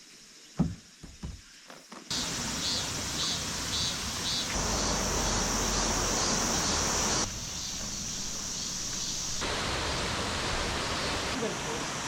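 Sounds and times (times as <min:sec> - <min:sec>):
outdoor ambience hiss: 0:00.0 - 0:12.0
insects buzzing: 0:00.1 - 0:12.0.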